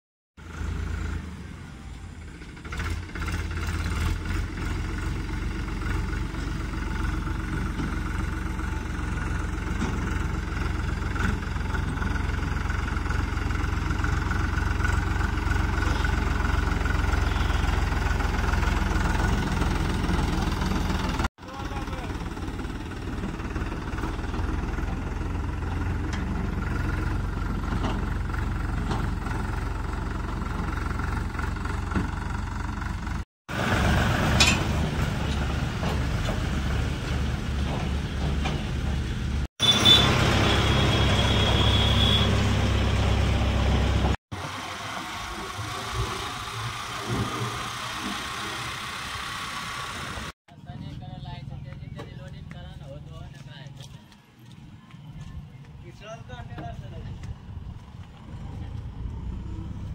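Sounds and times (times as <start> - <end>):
tractor diesel engine running: 0.4 - 55.7, 56.3 - 59.9.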